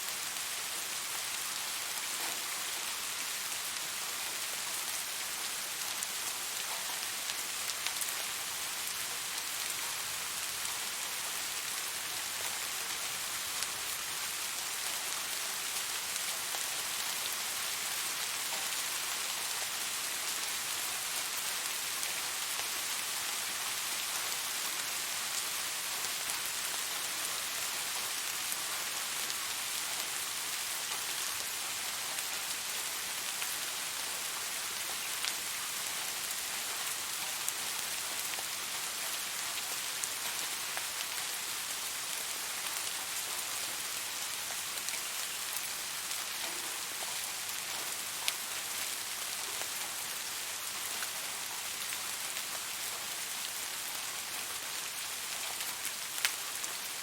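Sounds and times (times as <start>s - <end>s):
rain hissing on a surface: 0.0s - 57.0s.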